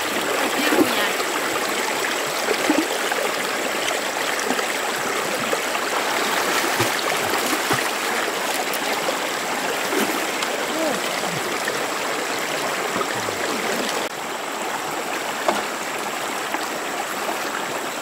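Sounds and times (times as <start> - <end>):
stream water gurgling over rocks: 0.0 - 18.0.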